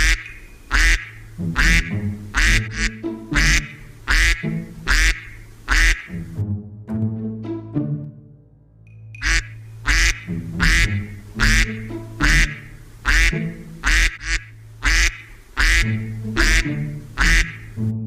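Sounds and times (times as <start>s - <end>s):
duck quacking: 0.0s - 6.4s, 9.2s - 17.8s
background music: 0.3s - 5.2s, 5.8s - 14.0s, 15.6s - 18.0s.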